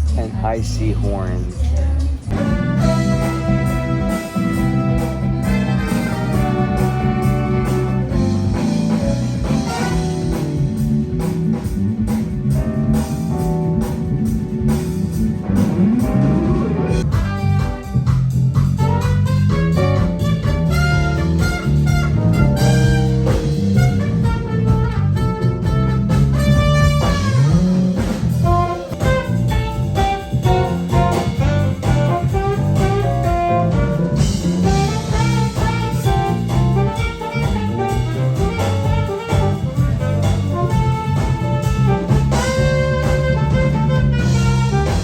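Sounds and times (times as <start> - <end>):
jazz band with horns: 0.0 - 45.0.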